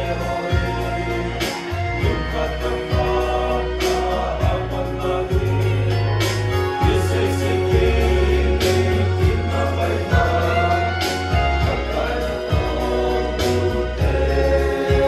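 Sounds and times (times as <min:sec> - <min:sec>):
amplified backing music: 0:00.0 - 0:15.0
choir singing gospel: 0:00.0 - 0:15.0.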